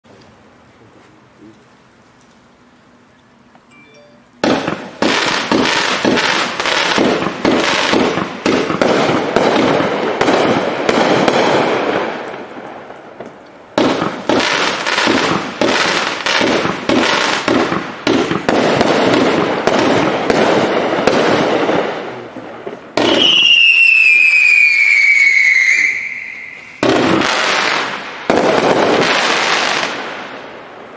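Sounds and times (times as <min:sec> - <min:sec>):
fireworks popping and crackling: 0:04.4 - 0:30.9.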